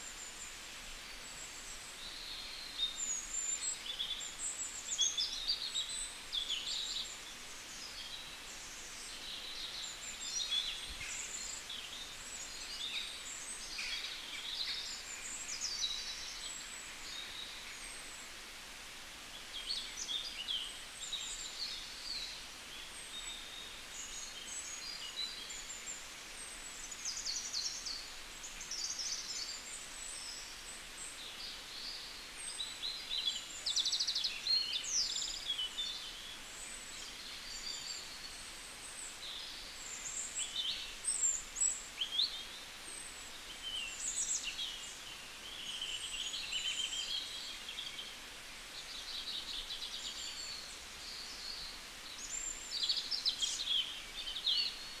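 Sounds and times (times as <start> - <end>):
faint hiss: 0.0 - 55.0
songbirds chirping: 0.0 - 55.0.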